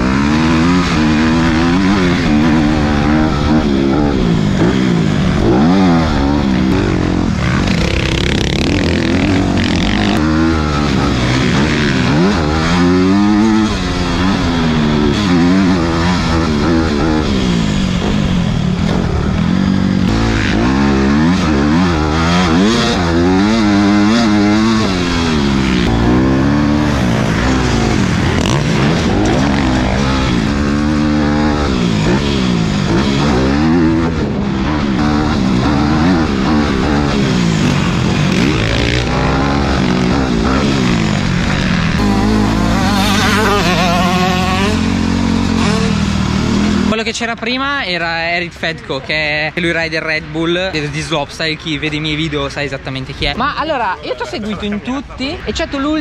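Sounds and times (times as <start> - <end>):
motorbike engine revving: 0.0 - 47.1.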